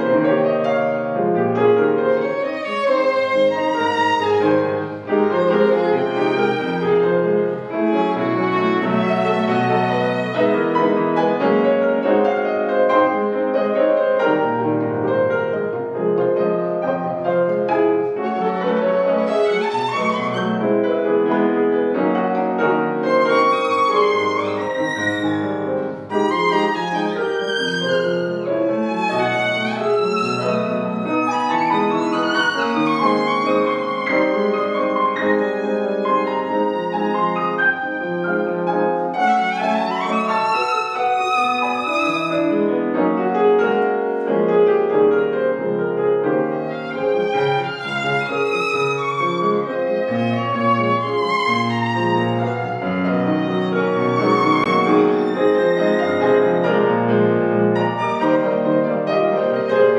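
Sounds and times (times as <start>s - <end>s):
bowed violin melody: 0.0s - 59.9s
piano accompaniment: 0.0s - 59.9s.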